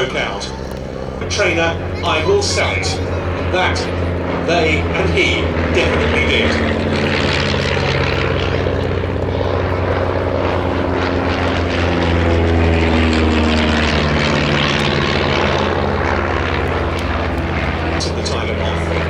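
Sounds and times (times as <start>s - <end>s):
light aircraft flying past: 0.0s - 19.0s.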